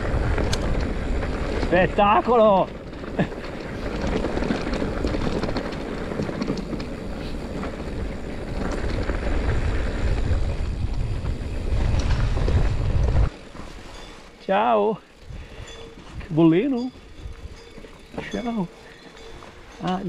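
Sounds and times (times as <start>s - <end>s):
wind buffeting microphone: 0.0s - 13.4s, 15.2s - 20.0s
bike rattling over rough trail: 0.0s - 20.0s.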